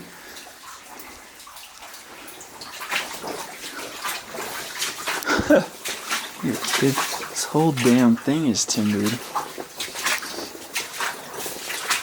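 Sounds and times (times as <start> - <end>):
water splashing from wading: 0.0 - 12.0.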